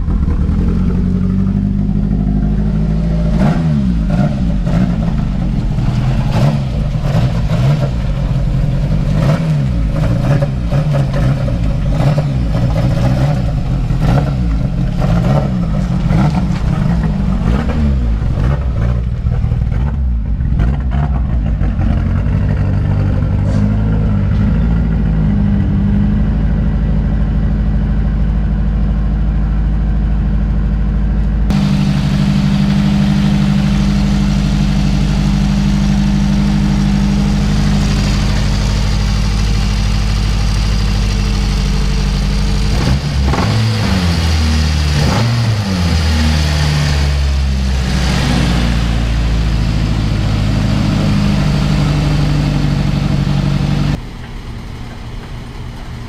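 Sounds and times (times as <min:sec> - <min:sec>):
car engine running unevenly: 0:00.0 - 0:56.0.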